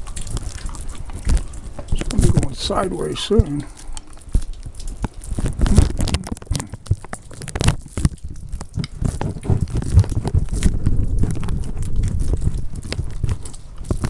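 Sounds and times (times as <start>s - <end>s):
crackles and pops: 0.0s - 14.0s
wind buffeting microphone: 0.0s - 14.0s.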